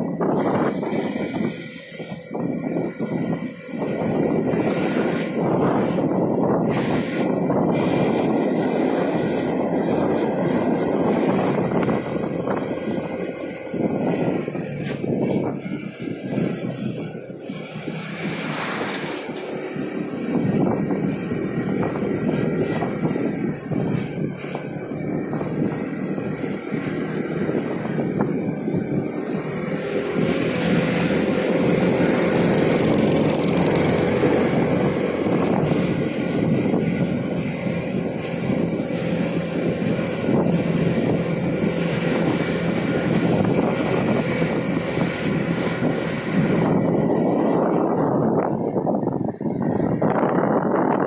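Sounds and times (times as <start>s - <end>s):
car engine and tyre noise: 0.0s - 51.0s.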